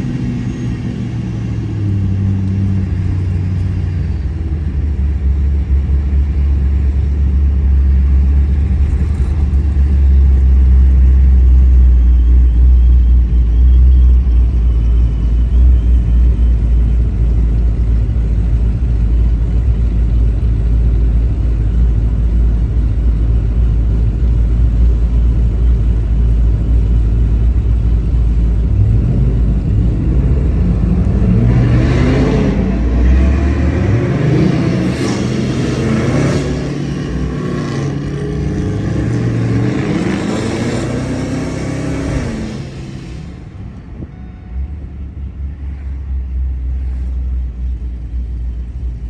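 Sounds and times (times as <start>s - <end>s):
car engine rumbling and revving: 0.0s - 49.0s.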